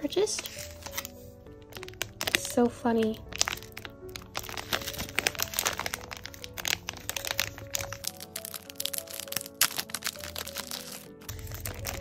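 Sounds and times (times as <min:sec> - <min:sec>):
background music: 0:00.0 - 0:12.0
foil pouch crinkling: 0:00.3 - 0:12.0.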